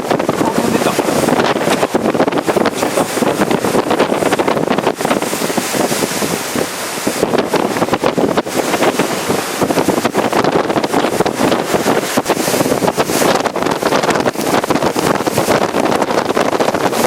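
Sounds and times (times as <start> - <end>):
heavy rain: 0.0 - 17.0
wind gusting hard: 0.0 - 17.0.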